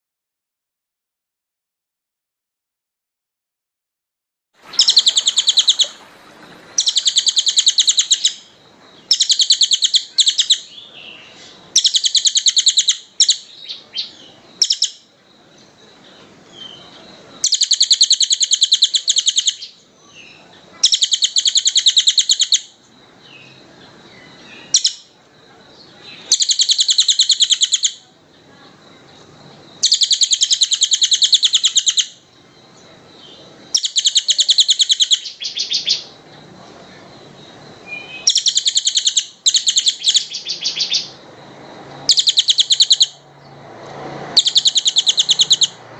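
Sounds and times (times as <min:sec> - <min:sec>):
songbird singing fast trills: 0:04.6 - 0:45.9
soft bird chirps: 0:04.7 - 0:43.6, 0:44.4 - 0:45.9.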